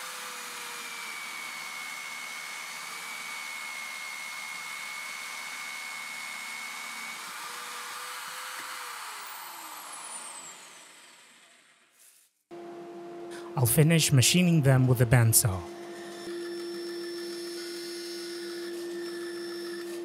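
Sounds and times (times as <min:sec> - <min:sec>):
drill press whining: 0:00.0 - 0:11.7, 0:15.6 - 0:20.0
motor winding down: 0:00.0 - 0:11.8, 0:14.5 - 0:20.0.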